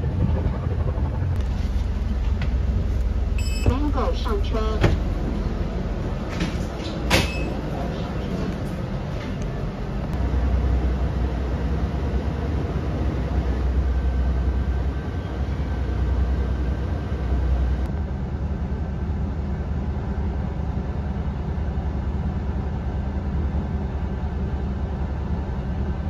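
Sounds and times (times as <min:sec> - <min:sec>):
bus interior rumble and hum: 0:00.0 - 0:26.0.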